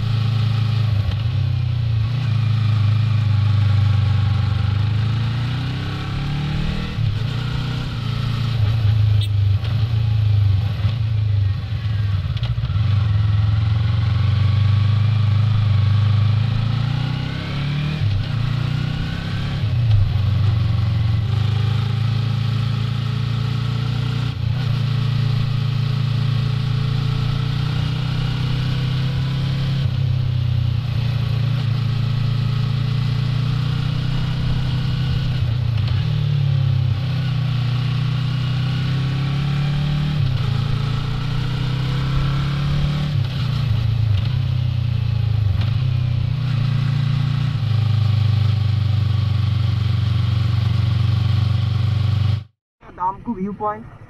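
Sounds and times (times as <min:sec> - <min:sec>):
motorcycle engine revving: 0:00.0 - 0:52.6.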